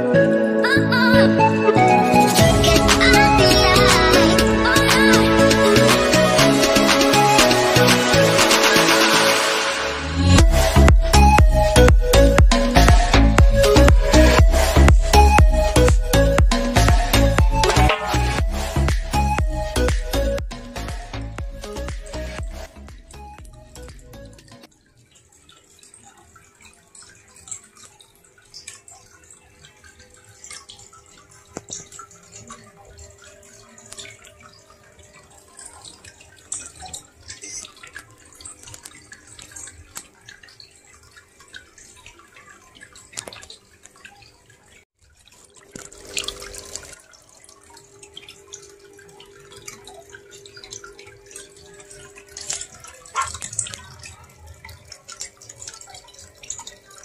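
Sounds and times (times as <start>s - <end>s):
water trickling and dripping: 0.0s - 57.0s.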